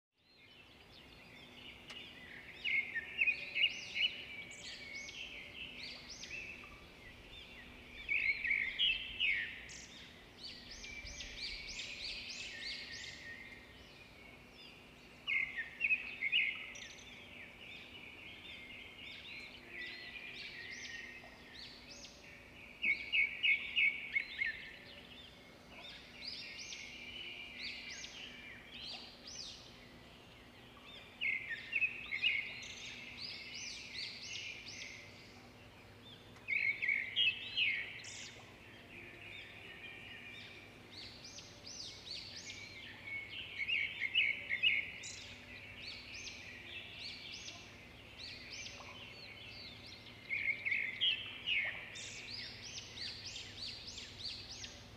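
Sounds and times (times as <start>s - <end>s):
small birds chirping: 0.2s - 54.9s.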